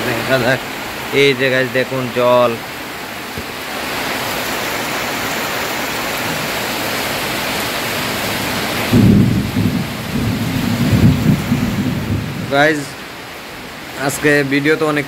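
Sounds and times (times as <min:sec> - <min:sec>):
heavy rain on water: 0:00.0 - 0:15.0.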